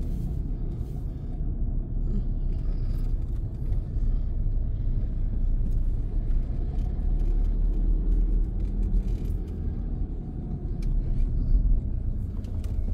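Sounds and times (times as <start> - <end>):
car engine and road noise: 0.0 - 12.9.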